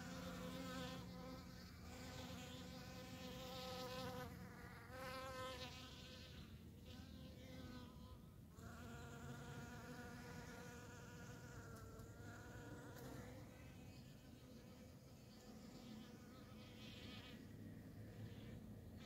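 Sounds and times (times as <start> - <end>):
bee buzzing in flight: 0.0 - 8.0, 8.6 - 19.0.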